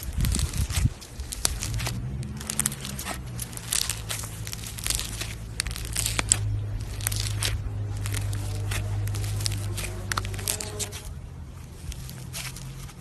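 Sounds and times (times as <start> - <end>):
slime crackling and popping: 0.0 - 13.0
steady low hum: 0.0 - 13.0.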